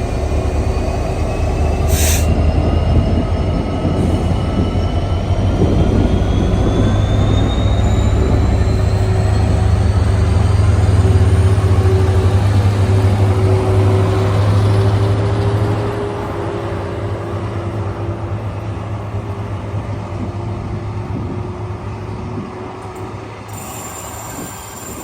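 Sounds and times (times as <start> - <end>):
diesel train engine drone: 0.0 - 25.0
train rumbling: 0.0 - 25.0.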